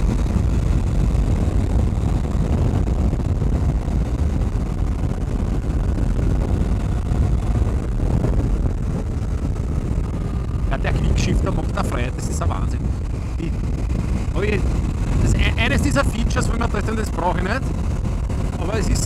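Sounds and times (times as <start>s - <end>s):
faint motorcycle engine: 0.0s - 19.0s
wind rushing over microphone: 0.0s - 19.0s.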